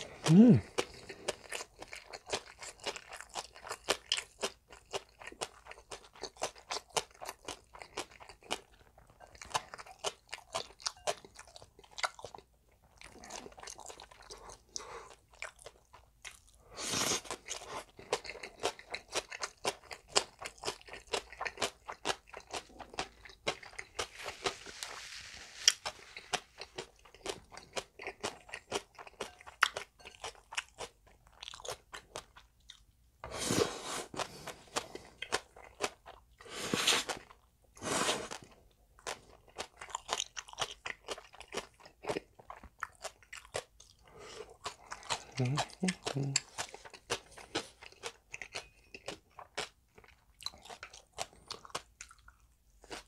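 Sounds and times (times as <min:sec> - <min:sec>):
chewing noodles with crunching clicks: 0:00.0 - 0:24.2, 0:25.7 - 0:32.9, 0:34.1 - 0:37.5, 0:38.1 - 0:53.0.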